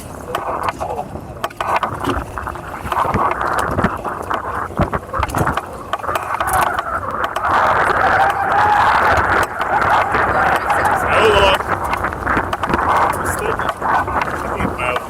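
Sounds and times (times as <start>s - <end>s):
water rushing along hulls: 0.0s - 15.0s
wind noise: 0.0s - 15.0s.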